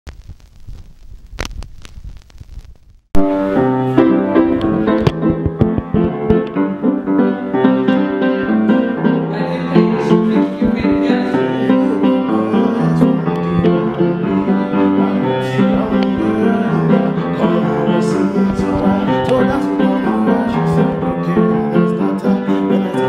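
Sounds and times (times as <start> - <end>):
instrumental keyboard music: 3.2 - 23.0.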